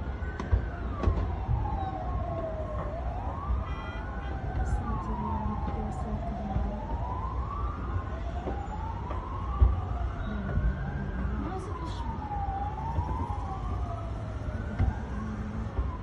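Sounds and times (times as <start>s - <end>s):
emergency sirens wailing: 0.0s - 16.0s.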